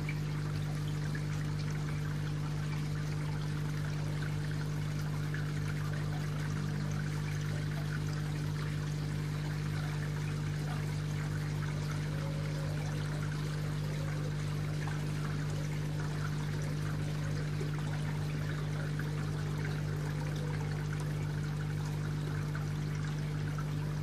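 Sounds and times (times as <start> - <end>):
water splashing into pond: 0.0 - 24.0.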